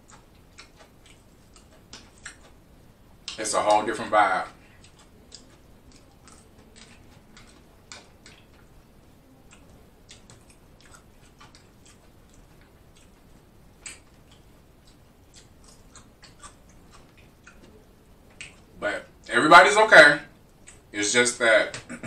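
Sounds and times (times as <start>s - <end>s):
person chewing: 0.0s - 19.3s, 20.4s - 20.9s.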